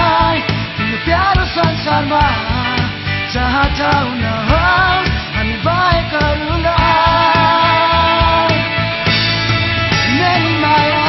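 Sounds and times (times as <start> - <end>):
pop-rock song with male singer: 0.0 - 11.0.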